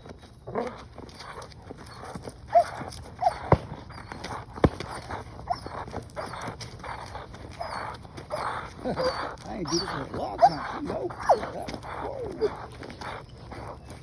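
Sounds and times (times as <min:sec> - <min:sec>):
birds chirping: 0:00.0 - 0:14.0
high squeaks: 0:00.0 - 0:14.0
dog huffing and growling: 0:00.4 - 0:14.0.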